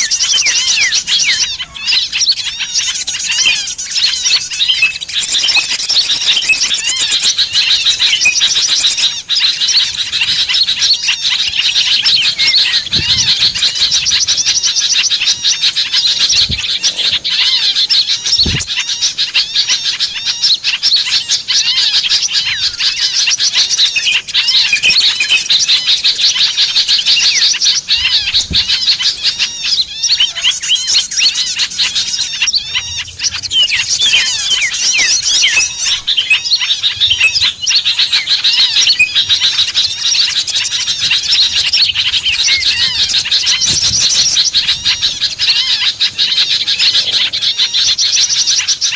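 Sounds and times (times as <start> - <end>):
many small birds chirping: 0.0 - 48.9.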